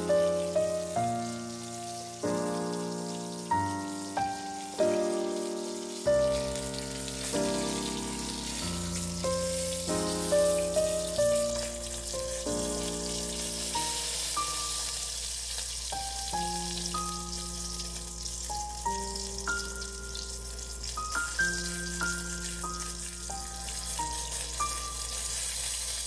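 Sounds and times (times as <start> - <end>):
background music held notes: 0.0 - 15.3, 15.9 - 25.8
oil sizzling: 0.0 - 26.0.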